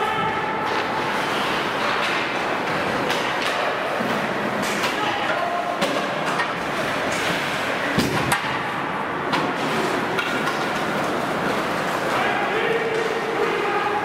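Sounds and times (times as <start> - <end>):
hockey sticks and puck clacking: 0.0 - 14.0
skates scraping ice: 0.5 - 14.0.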